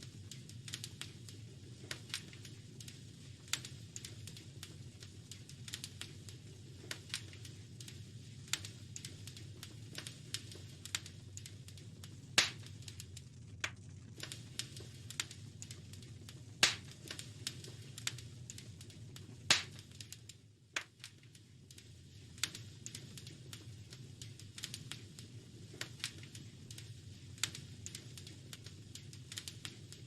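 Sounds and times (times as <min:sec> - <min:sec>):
fire popping: 0:00.0 - 0:30.0
wood fire crackling: 0:00.0 - 0:30.0.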